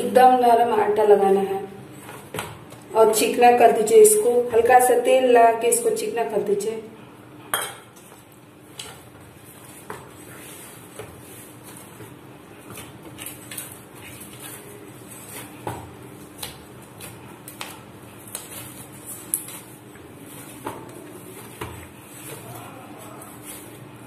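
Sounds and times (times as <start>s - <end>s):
dough being kneaded by hand: 0.0s - 5.0s, 7.8s - 24.0s.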